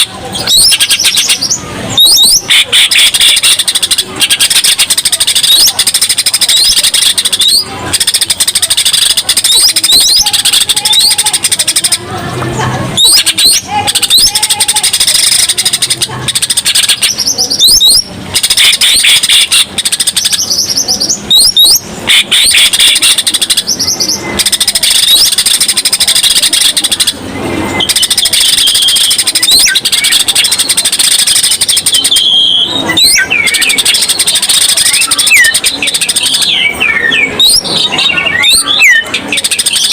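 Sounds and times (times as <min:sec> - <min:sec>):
bird singing chirps and whistles: 0:00.0 - 0:12.0, 0:13.0 - 0:27.2, 0:27.8 - 0:39.9.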